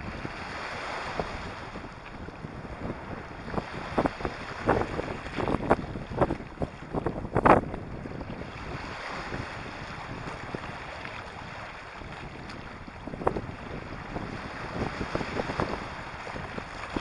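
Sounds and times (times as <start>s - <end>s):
wind buffeting microphone: 0.0s - 17.0s
waves on pebble beach: 0.1s - 7.6s, 8.2s - 17.0s.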